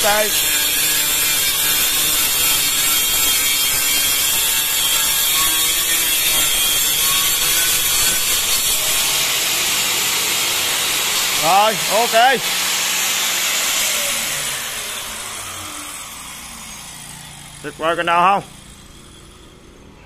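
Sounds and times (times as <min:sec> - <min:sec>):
angle grinder grinding tile: 0:00.0 - 0:19.8.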